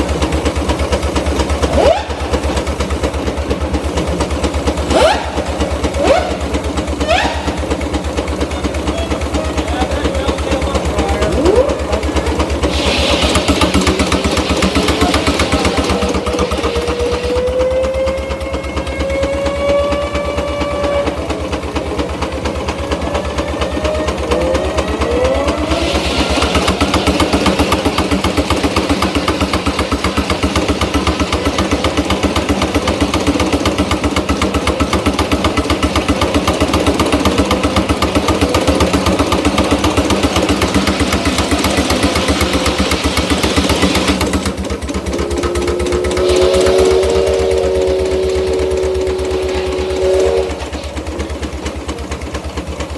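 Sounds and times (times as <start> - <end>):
loud steam hiss: 0.0 - 19.9, 20.7 - 52.9
steam engine beating: 0.0 - 52.9.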